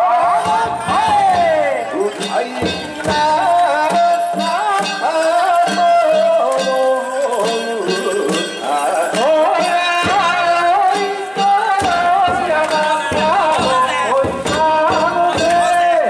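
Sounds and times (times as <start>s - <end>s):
drum and bell strikes: 0.0s - 16.0s.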